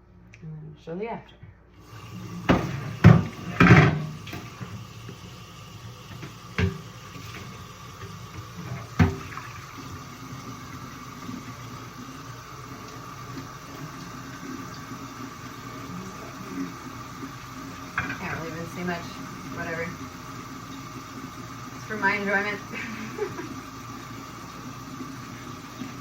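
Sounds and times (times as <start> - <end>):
tap water running: 1.8 - 26.0.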